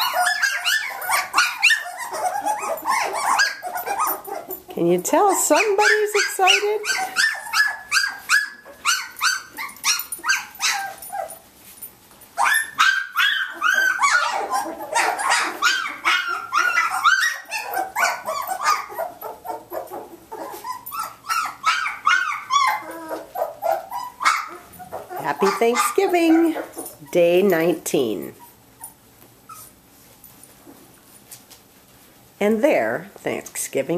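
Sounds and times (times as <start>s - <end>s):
dogs yipping and squealing: 0.0s - 27.4s, 28.3s - 30.9s.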